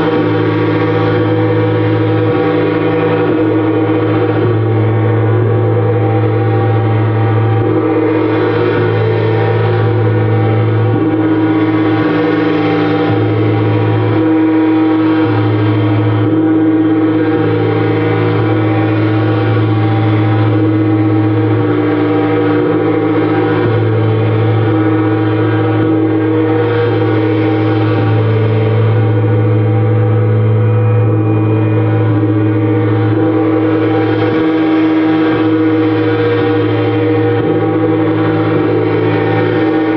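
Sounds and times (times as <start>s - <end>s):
deep hum: 0.0s - 39.9s
gongs ringing: 0.0s - 39.9s.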